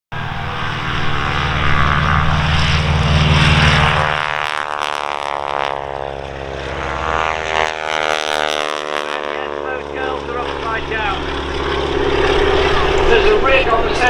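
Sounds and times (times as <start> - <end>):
biplane engine flying by: 0.1 - 14.0.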